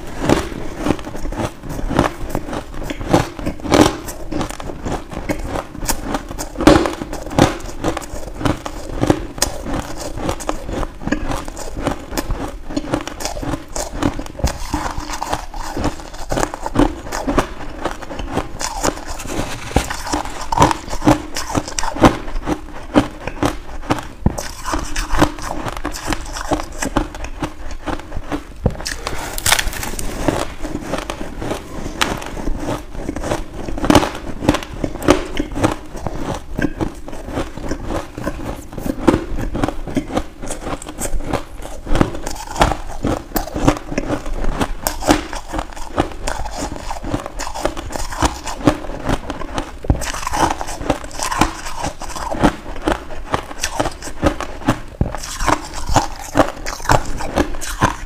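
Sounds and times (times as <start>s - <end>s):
crushed ice being chewed: 0.0s - 58.0s.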